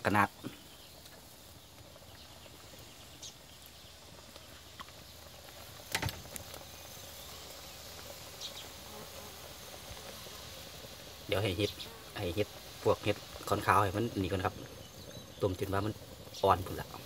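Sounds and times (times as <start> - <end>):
curry bubbling in a wok: 0.0 - 17.0.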